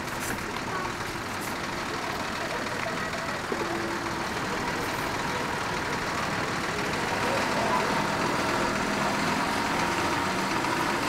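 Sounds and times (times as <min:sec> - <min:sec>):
street noise: 0:00.0 - 0:11.0
vehicle engine running: 0:00.0 - 0:11.0.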